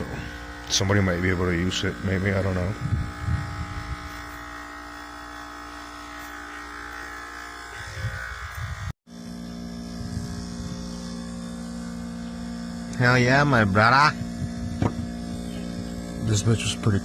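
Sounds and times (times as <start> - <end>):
steady electric hum: 0.0 - 17.0.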